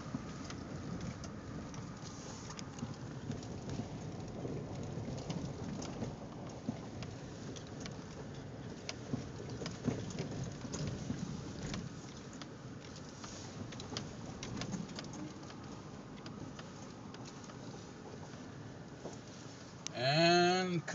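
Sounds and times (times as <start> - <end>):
tyres rumbling on gravel: 0.0 - 20.9.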